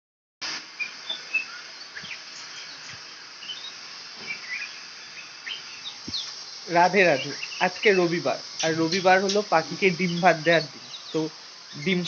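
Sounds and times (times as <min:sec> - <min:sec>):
insects droning: 0:00.4 - 0:12.0.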